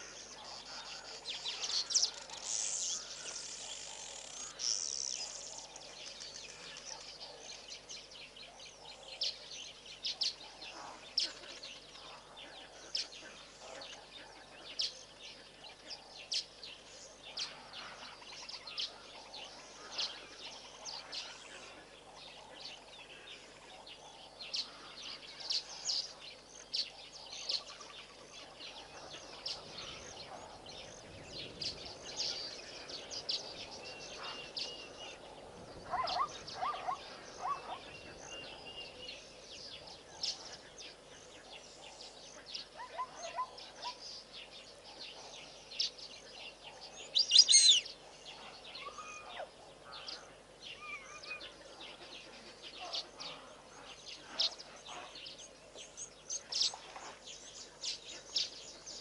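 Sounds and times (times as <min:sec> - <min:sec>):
open-air ambience hiss: 0:00.0 - 0:59.0
wild birds chirping: 0:00.0 - 0:59.0.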